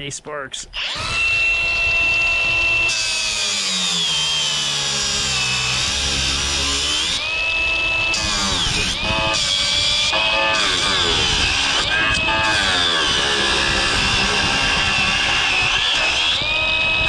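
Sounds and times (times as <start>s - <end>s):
angle grinder cutting metal: 0.8s - 17.0s.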